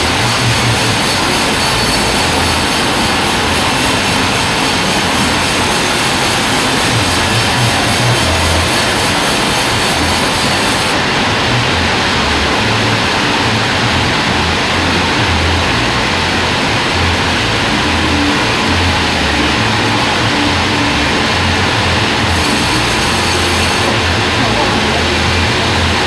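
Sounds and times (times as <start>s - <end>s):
band saw running: 0.0s - 26.0s.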